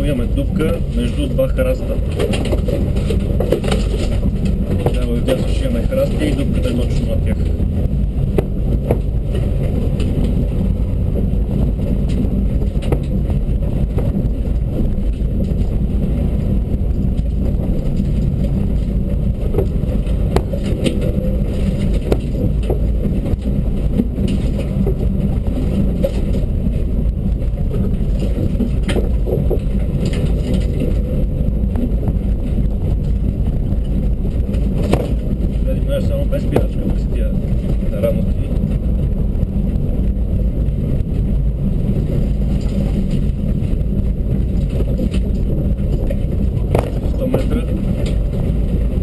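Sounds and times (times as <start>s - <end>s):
car engine and road drone: 0.0s - 49.0s
knocks and rattles: 0.0s - 49.0s.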